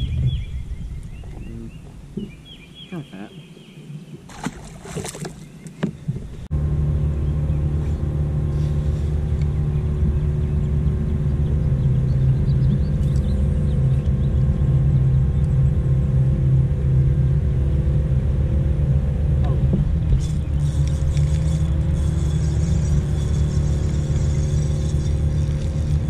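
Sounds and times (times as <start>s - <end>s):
boat motor rumbling: 0.0s - 26.0s.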